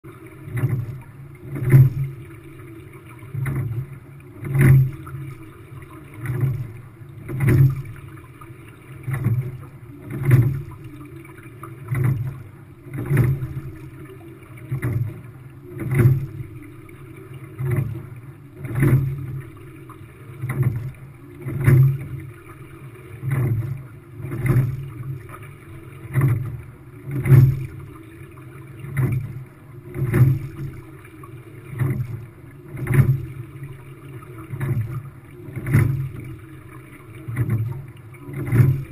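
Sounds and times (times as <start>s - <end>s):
water rushing along hull: 0.0s - 38.9s
oar blades splashing: 0.1s - 38.9s.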